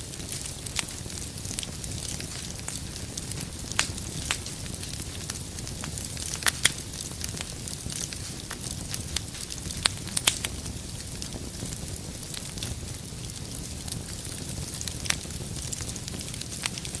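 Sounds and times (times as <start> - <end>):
low rustle of flames: 0.0 - 17.0
wood fire crackling and popping: 0.0 - 17.0.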